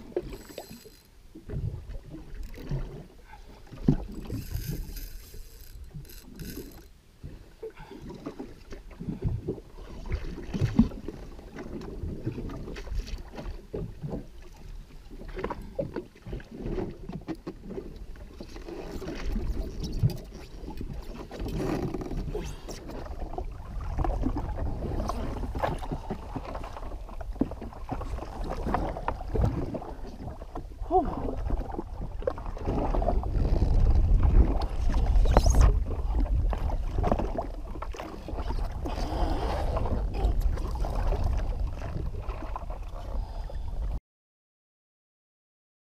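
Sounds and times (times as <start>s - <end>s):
water slapping against hull: 0.0s - 44.0s.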